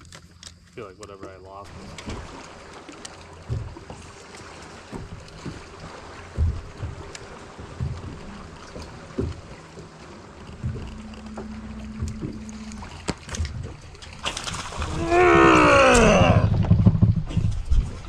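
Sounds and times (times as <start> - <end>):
steady low hum: 1.6 - 18.0.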